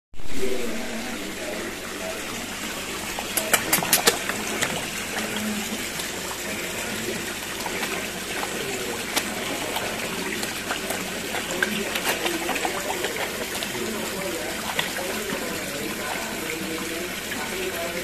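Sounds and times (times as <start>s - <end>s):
koi splashing in pond water: 0.2s - 18.0s.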